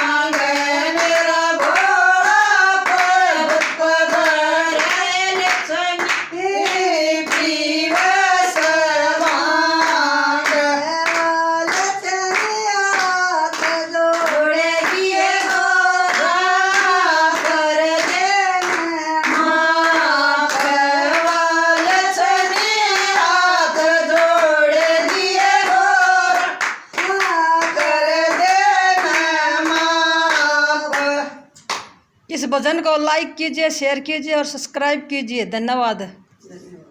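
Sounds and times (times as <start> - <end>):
rhythmic hand clapping: 0.0 - 32.1.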